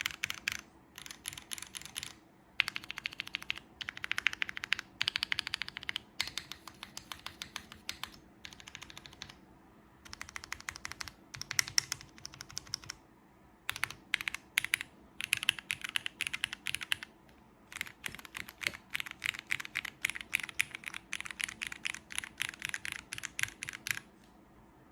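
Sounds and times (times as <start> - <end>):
fast typing on mechanical keyboard: 0.0 - 9.4, 10.1 - 13.0, 13.7 - 17.1, 17.7 - 24.1.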